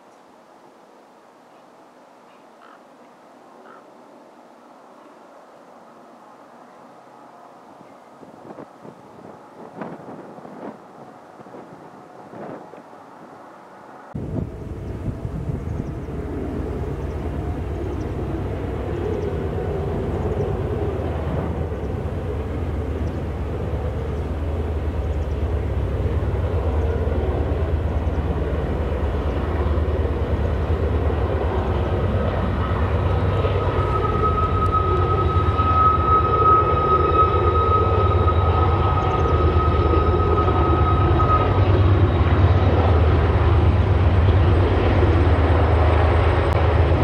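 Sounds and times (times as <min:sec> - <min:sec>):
diesel locomotives rumbling: 0:05.8 - 0:47.0
high-pitched whine: 0:09.2 - 0:47.0.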